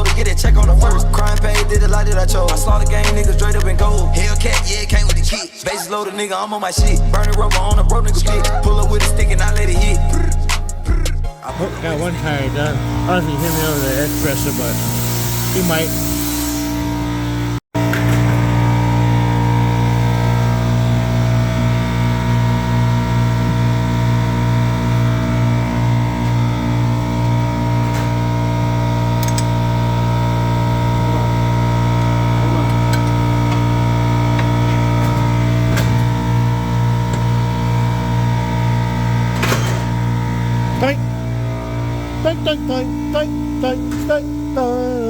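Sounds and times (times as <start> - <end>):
air compressor humming: 6.8 - 45.0.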